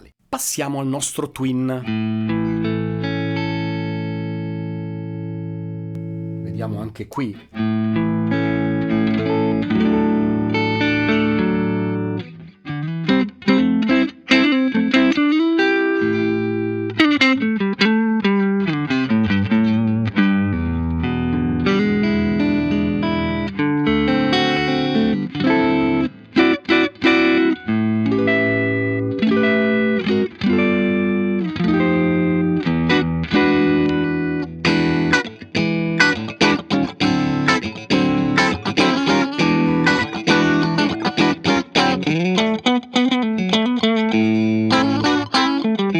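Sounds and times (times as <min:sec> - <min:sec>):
clean electric guitar playing: 0:01.8 - 0:45.9.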